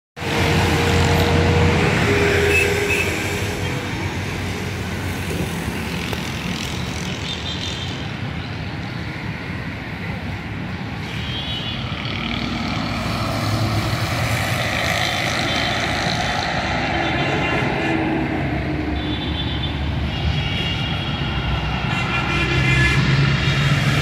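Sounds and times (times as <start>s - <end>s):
busy road traffic: 0.2s - 24.0s.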